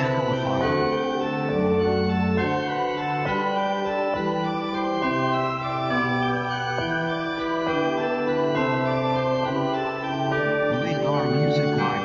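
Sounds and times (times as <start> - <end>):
slow sustained chords music: 0.0 - 12.0.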